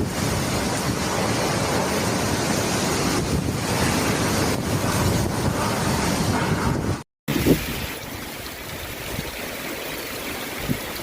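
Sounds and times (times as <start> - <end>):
wind buffeting microphone: 0.0 - 9.4, 10.4 - 11.0
storm rushing: 0.0 - 11.0.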